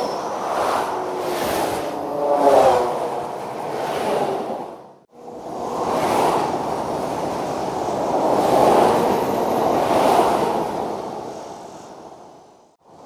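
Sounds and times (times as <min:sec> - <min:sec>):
fast road traffic passing: 0:00.0 - 0:12.7.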